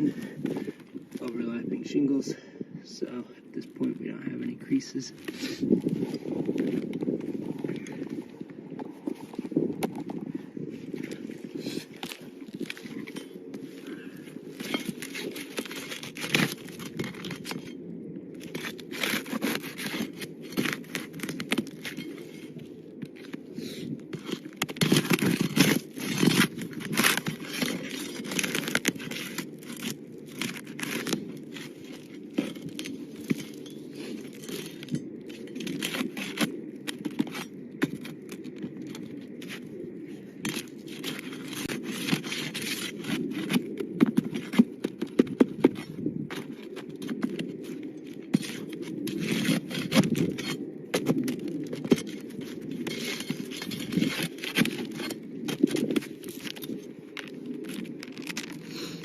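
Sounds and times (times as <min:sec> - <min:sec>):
roof shingles scraping and tearing: 0:11.0 - 0:17.7, 0:18.4 - 0:59.0.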